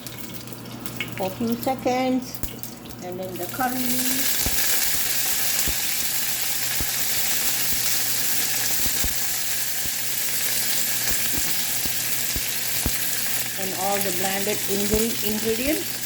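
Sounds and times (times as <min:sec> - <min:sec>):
oil popping and crackling: 0:00.0 - 0:16.0
seeds frying in hot oil: 0:00.0 - 0:16.0.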